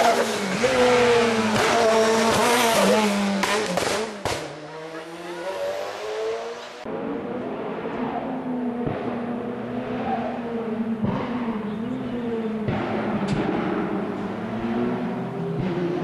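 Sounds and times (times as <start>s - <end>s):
distant race engine: 0.0s - 16.0s
race car engine revving: 0.0s - 16.0s.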